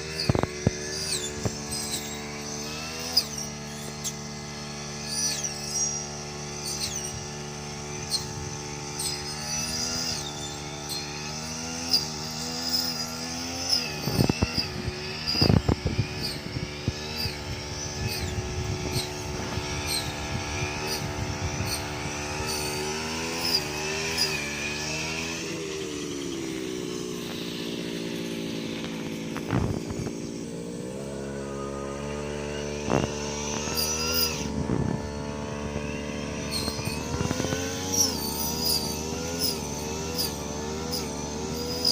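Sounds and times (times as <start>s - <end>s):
brush cutter engine running: 0.0s - 41.9s.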